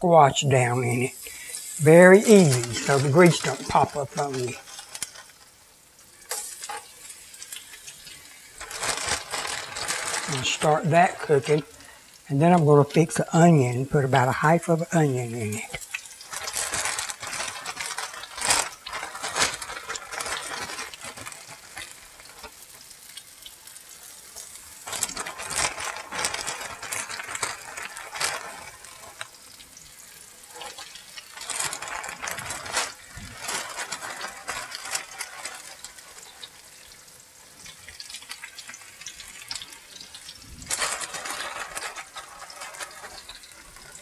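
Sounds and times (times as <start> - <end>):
slices sizzling in hot oil: 0.0 - 44.0
plastic bag crinkling: 0.5 - 44.0.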